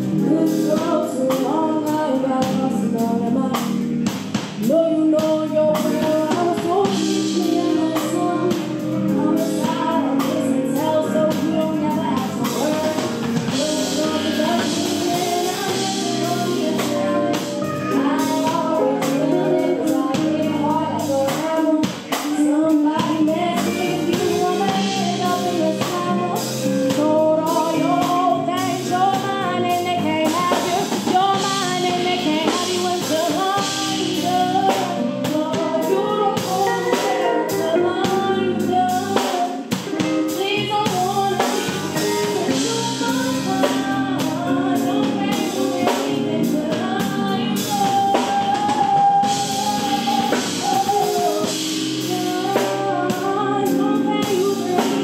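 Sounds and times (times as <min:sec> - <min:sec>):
drum kit: 0:00.0 - 0:55.0
electric bass: 0:00.0 - 0:55.0
electric guitar: 0:00.0 - 0:55.0
keyboard: 0:00.0 - 0:55.0
woman singing: 0:00.0 - 0:55.0.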